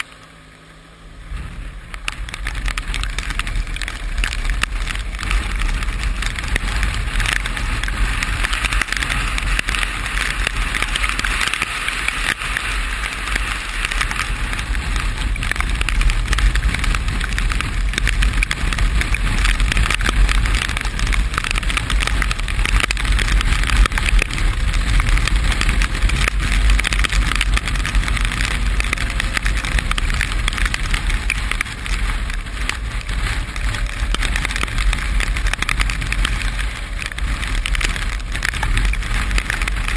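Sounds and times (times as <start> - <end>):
deep rumble: 0.0 - 39.9
rain and wind rushing: 0.0 - 39.9.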